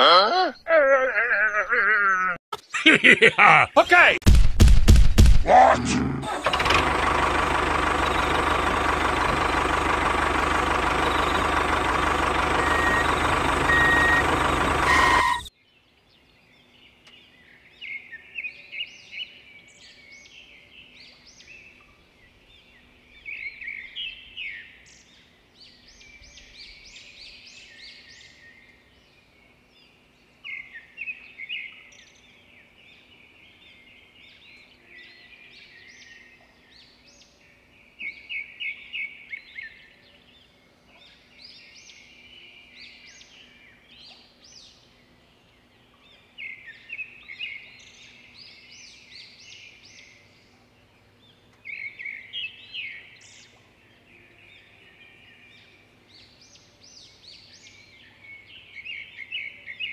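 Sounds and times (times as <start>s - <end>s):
small birds chirping: 5.6s - 59.9s.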